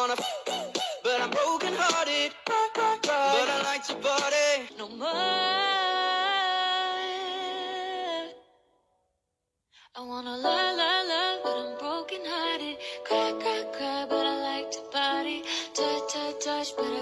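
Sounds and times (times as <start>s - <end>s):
person singing: 0.0s - 8.4s, 10.0s - 17.0s.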